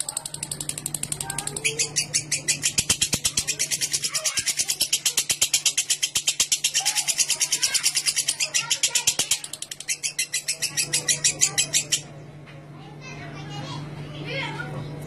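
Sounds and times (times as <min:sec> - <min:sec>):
lovebird trilling: 0:00.0 - 0:12.1.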